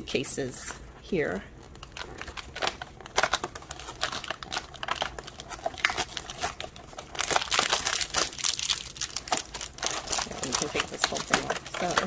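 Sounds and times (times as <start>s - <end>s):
plastic packaging crinkling: 1.5s - 12.0s.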